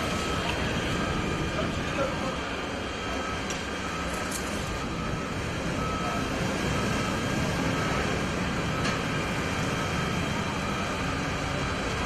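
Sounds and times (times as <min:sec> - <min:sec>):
fire truck engines and pumps running: 0:00.0 - 0:12.0.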